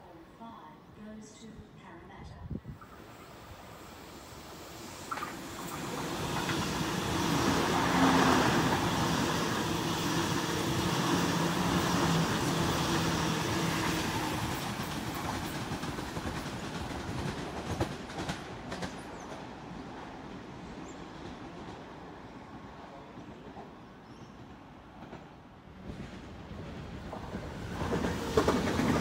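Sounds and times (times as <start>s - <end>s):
electric train passing: 2.7s - 29.0s.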